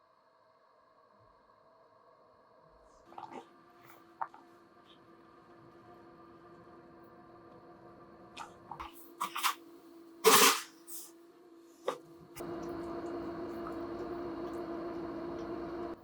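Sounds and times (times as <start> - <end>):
constant hum: 1.7 - 16.0.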